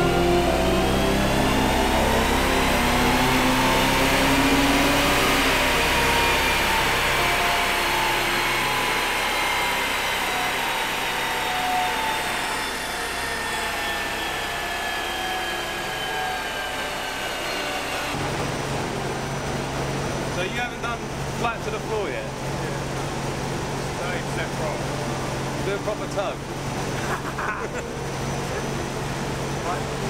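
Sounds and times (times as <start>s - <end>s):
car engine revving under load: 0.0s - 30.0s.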